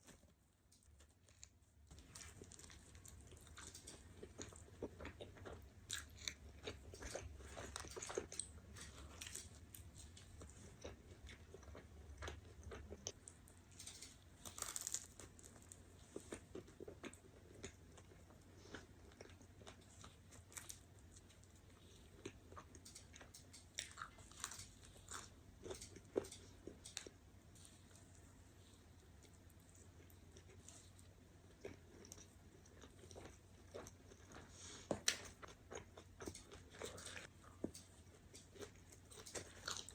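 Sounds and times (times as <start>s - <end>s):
person chewing crunchy food: 1.2s - 13.5s, 14.4s - 39.9s.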